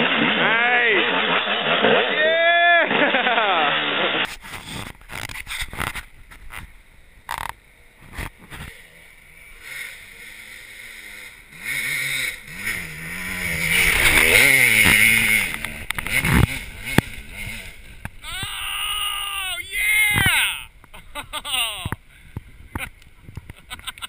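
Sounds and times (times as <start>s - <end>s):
dirt bike engine revving: 0.0s - 2.2s, 2.9s - 22.0s.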